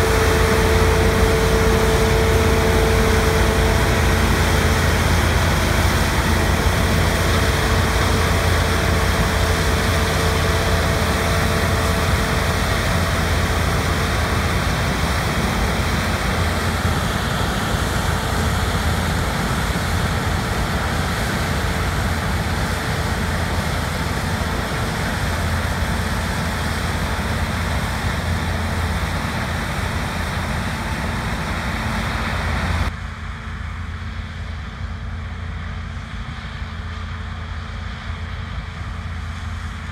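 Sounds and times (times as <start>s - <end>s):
diesel engine drone: 0.0s - 39.9s
loud rushing mechanical noise: 0.0s - 39.9s.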